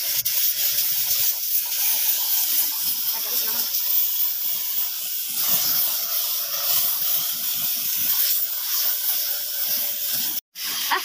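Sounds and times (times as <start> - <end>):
paint spray gun hissing: 0.0 - 11.0.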